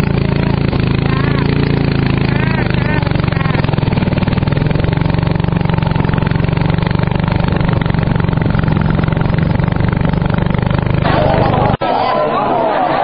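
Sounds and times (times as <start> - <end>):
motorboat engine puttering: 0.0 - 11.8.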